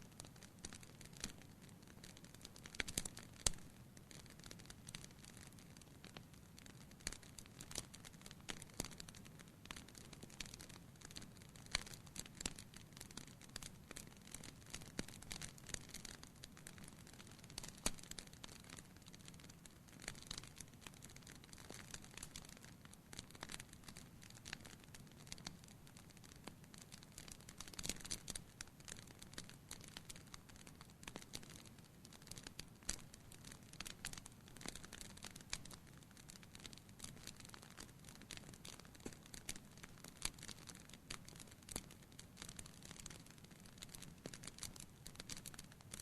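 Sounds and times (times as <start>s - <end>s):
low hiss: 0.0s - 46.0s
wood fire crackling and popping: 0.0s - 46.0s.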